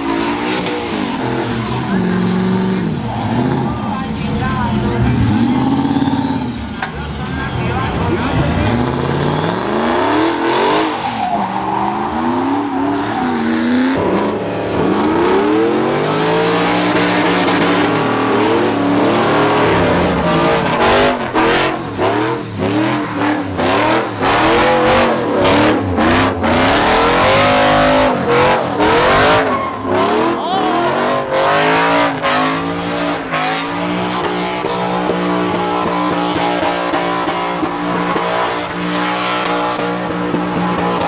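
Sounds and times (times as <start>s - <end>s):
car engine revving hard: 0.0s - 6.8s, 7.9s - 41.0s.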